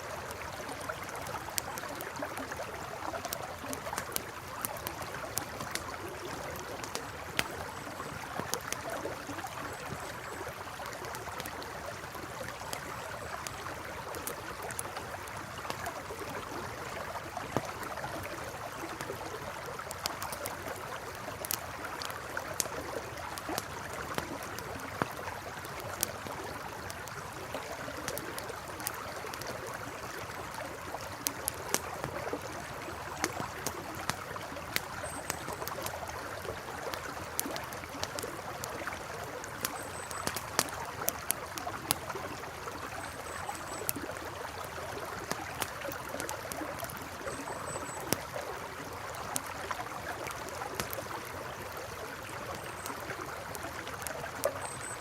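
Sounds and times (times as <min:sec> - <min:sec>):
campfire crackling: 0:00.0 - 0:55.0
river flowing: 0:00.0 - 0:55.0.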